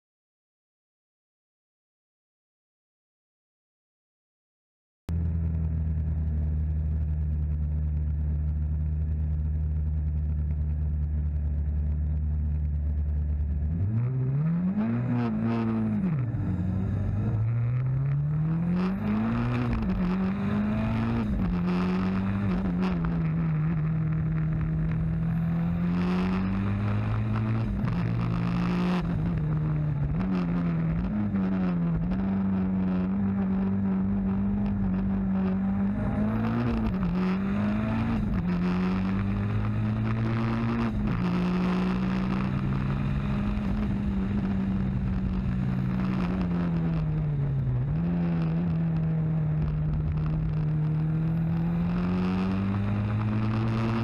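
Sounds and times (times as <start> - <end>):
race car engine: 5.1 - 54.0.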